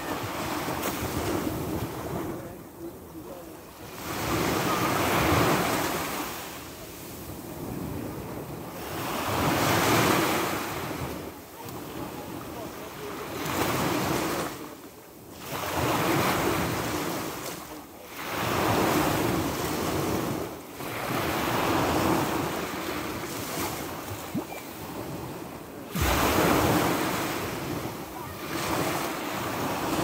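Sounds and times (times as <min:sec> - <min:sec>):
sea waves breaking: 0:00.0 - 0:30.0.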